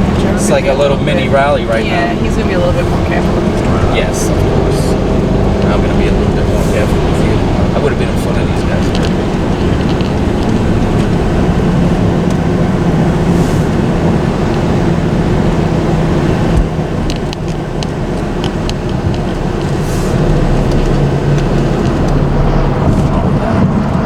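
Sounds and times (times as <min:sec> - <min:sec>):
car engine running: 0:00.0 - 0:24.0
road and tyre noise: 0:00.0 - 0:24.0.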